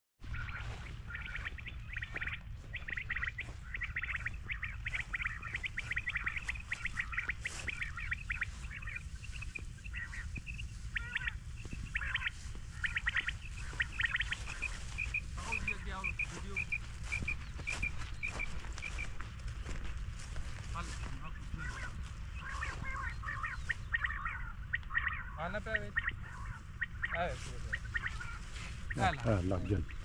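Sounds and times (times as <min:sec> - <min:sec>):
birds chattering: 0:00.2 - 0:30.0
steady low rumble: 0:00.2 - 0:30.0.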